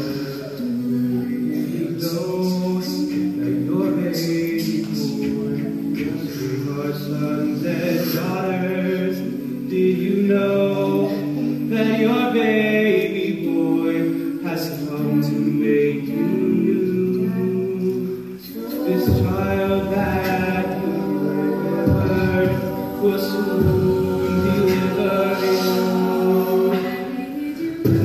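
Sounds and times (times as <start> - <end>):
a cappella group singing in harmony: 0.0 - 28.0.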